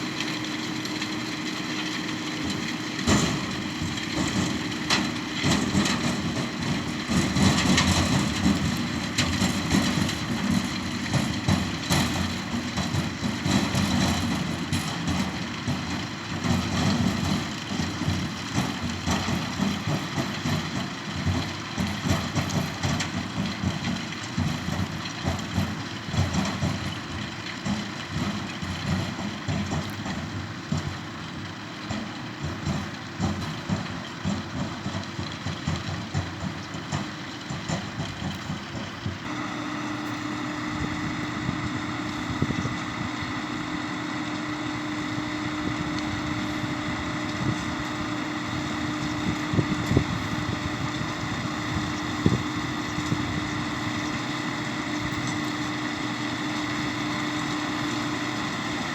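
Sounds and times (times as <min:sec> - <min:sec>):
tractor engine knocking rumble: 0:00.0 - 0:58.9.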